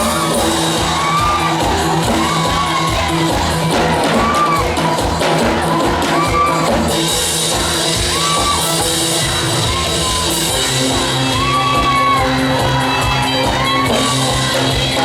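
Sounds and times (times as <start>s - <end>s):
instrumental backing music with beat: 0.0s - 15.0s.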